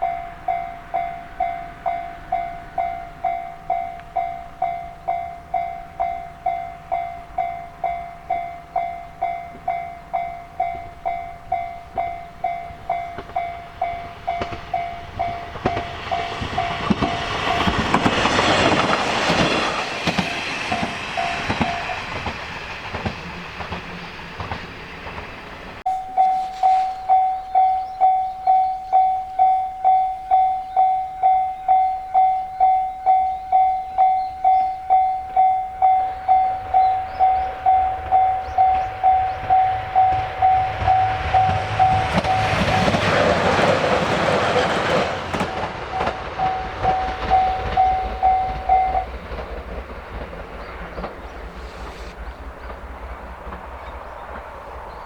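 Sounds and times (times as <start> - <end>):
level-crossing warning bell: 0.0 - 24.5, 25.8 - 50.3
train wheels clacking on rails: 0.0 - 55.0.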